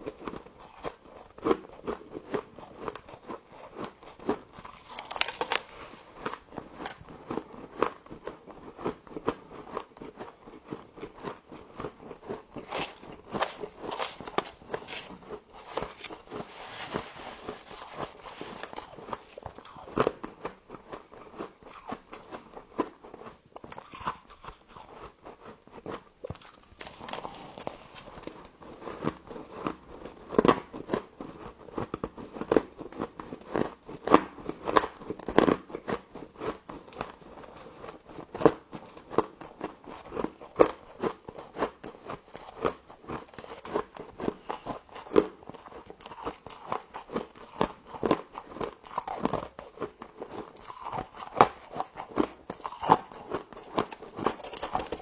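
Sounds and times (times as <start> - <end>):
chewing frost crunching: 0.0 - 55.0.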